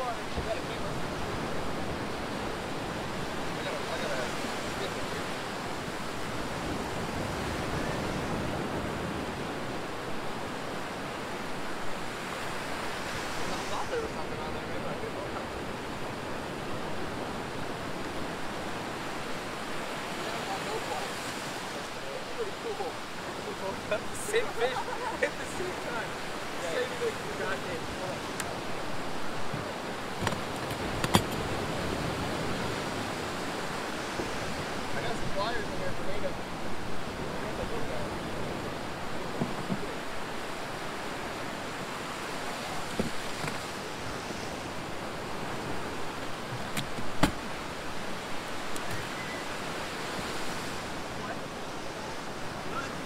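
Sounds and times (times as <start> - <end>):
surf breaking on beach: 0.0 - 53.0.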